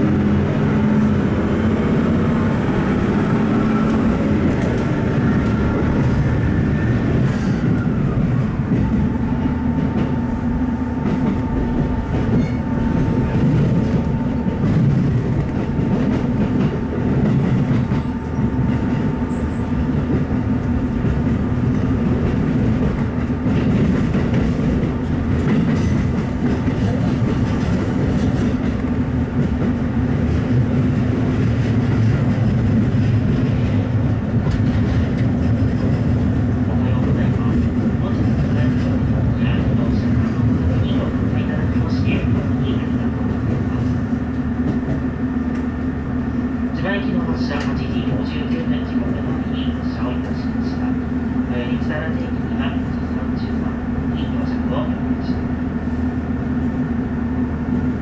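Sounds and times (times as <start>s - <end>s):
diesel railcar engine drone: 0.0s - 58.0s.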